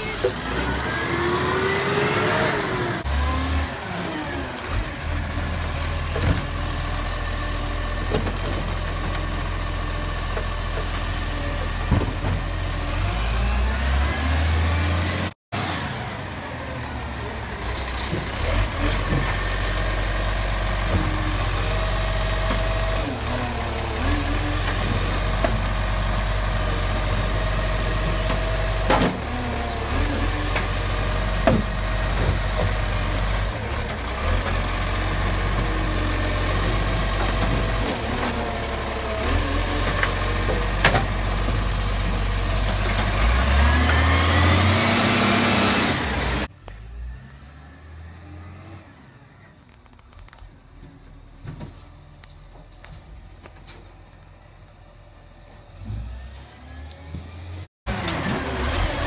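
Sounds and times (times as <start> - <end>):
garbage truck diesel engines: 0.0 - 59.0.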